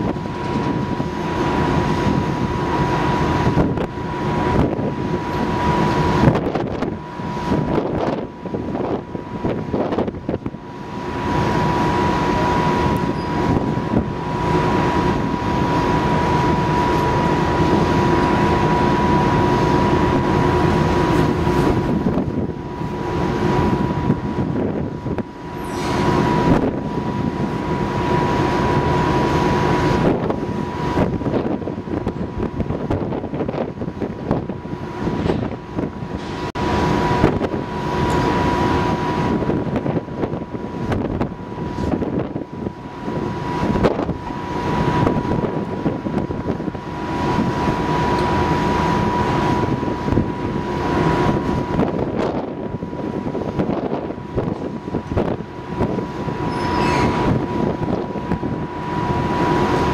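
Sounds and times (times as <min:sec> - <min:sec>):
machinery humming with high whine: 0:00.0 - 0:59.9
wind on microphone: 0:00.0 - 0:59.9.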